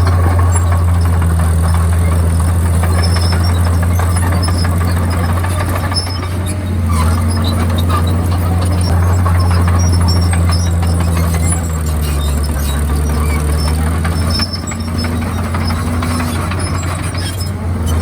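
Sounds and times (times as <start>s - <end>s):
bulldozer diesel engine drone: 0.0s - 18.0s
short high squeaks: 0.0s - 18.0s.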